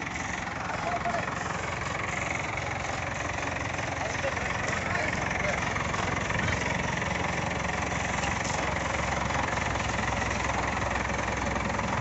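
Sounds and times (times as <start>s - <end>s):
heavy vehicle engine idling: 0.0s - 12.0s.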